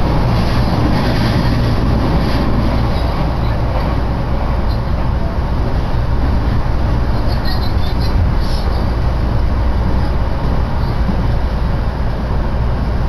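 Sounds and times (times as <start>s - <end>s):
electric train running rumble: 0.0s - 13.0s
wheel and rail noise: 0.0s - 13.0s.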